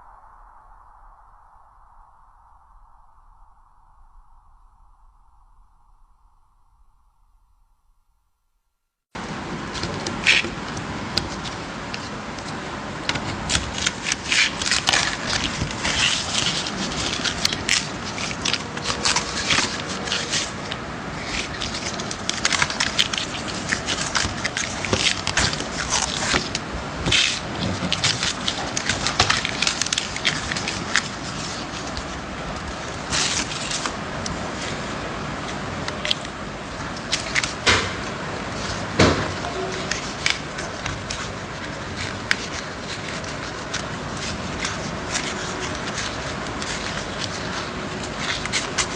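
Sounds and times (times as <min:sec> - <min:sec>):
bit crackling and scraping: 0:09.2 - 0:48.9.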